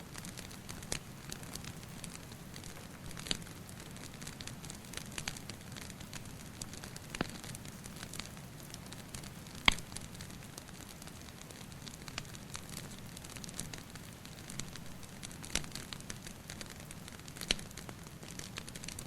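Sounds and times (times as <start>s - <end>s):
wood fire crackling: 0.0s - 19.0s
fire pops and snaps: 0.1s - 19.0s.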